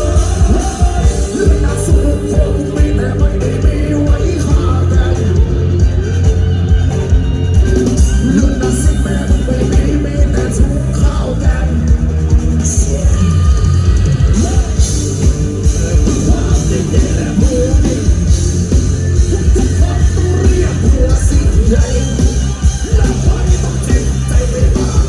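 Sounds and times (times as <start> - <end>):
loud rock music through speakers: 0.0 - 25.0.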